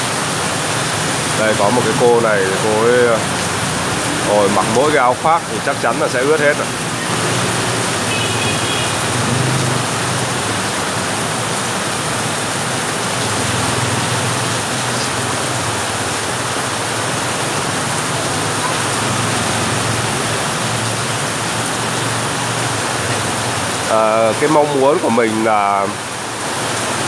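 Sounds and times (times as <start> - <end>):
heavy rain on pavement: 0.0 - 27.0
motorbikes passing: 0.0 - 27.0.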